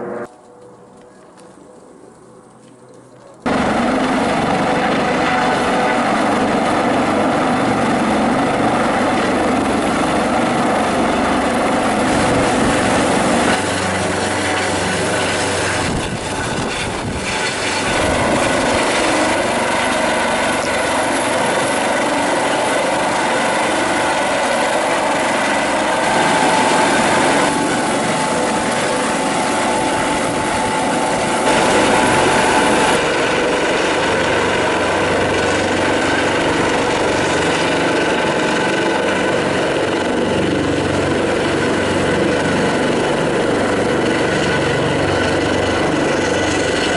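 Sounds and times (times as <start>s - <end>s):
helicopter hovering overhead: 0.0s - 46.9s.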